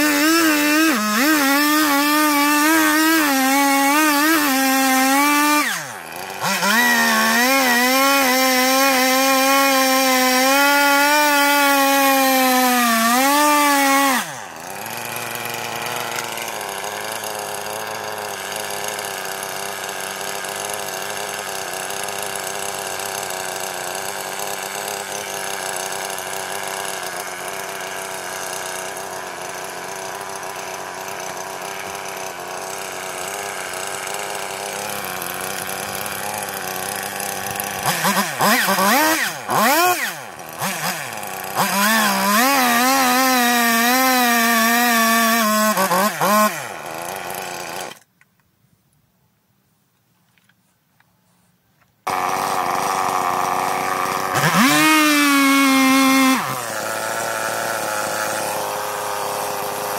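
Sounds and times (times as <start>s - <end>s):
chainsaw engine revving and idling: 0.0s - 48.1s, 52.0s - 59.9s.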